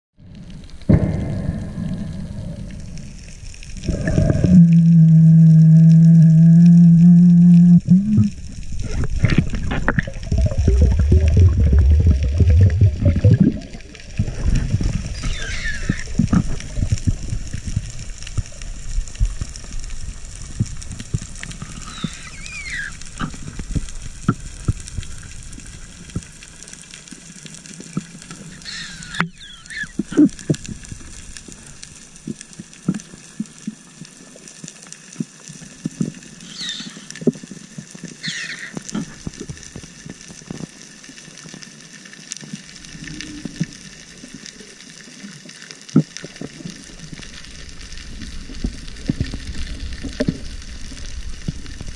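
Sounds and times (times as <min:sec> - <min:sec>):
crackle of small underwater clicks: 0:00.2 - 0:51.9
rush of moving water underwater: 0:00.2 - 0:51.9.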